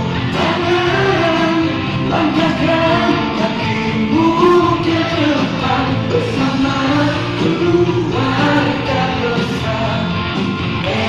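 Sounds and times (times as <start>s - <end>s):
song with band and singing: 0.0s - 11.0s.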